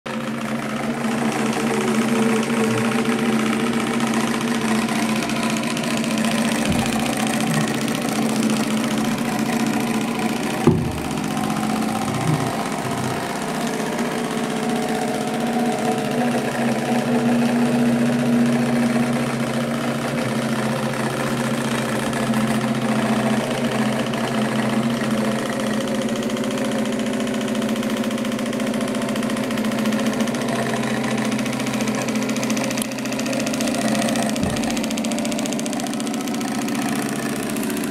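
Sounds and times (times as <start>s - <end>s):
small motor humming: 0.2s - 37.9s.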